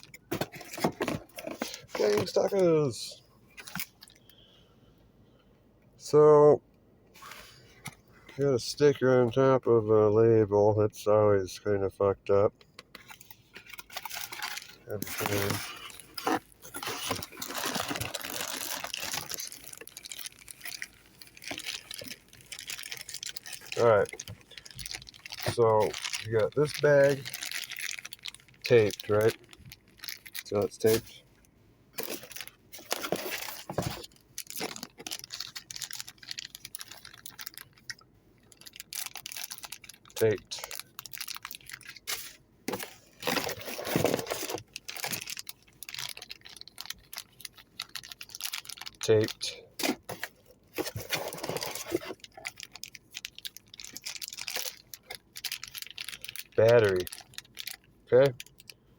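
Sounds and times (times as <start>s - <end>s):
packaging rustling and crinkling: 0.0s - 2.9s, 13.0s - 31.2s, 32.0s - 58.8s.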